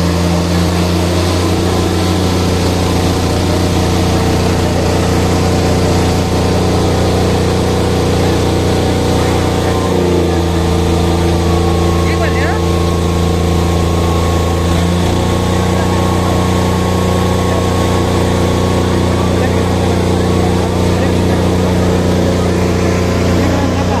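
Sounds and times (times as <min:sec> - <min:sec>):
tractor diesel engines droning: 0:00.0 - 0:24.0.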